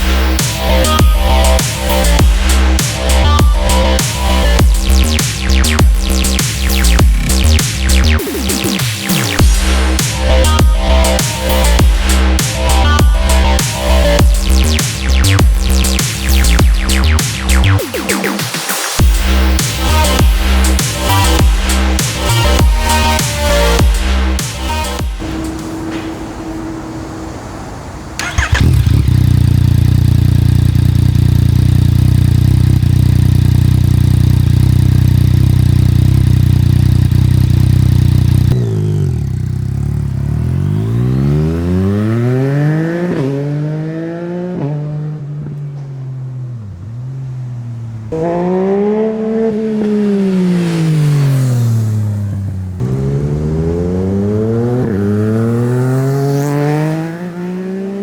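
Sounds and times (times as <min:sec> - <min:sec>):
motorcycle engine revving: 0:00.0 - 0:26.9, 0:28.2 - 0:58.0.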